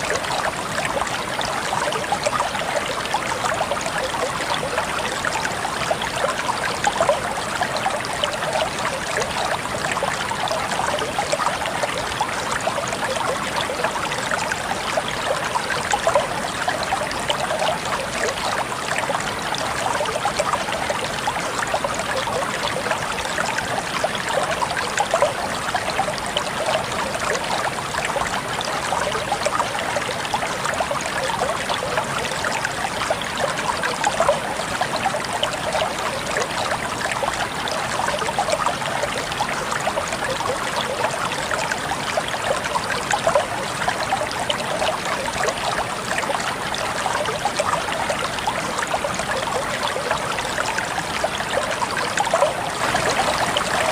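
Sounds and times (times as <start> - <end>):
stream running over stones: 0.0 - 53.9.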